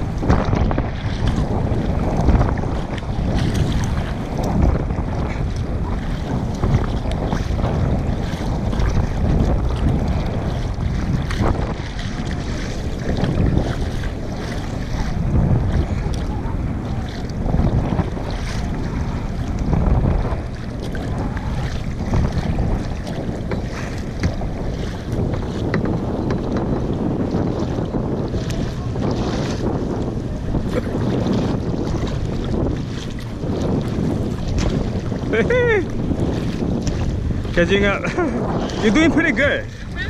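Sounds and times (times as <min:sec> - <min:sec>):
paddle splashing: 0:00.0 - 0:40.0
water sloshing around kayak: 0:00.0 - 0:40.0
wind buffeting microphone: 0:00.0 - 0:40.0.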